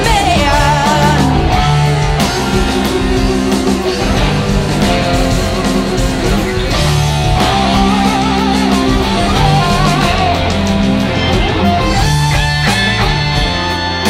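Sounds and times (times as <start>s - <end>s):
electric guitar lead with vibrato: 0.0s - 14.0s
rock band playing: 0.0s - 14.0s
sustained bass notes: 0.0s - 14.0s.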